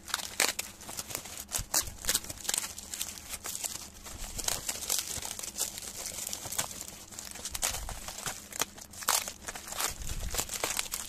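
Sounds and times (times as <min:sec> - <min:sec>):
bubble wrap crackling: 0:00.0 - 0:11.0.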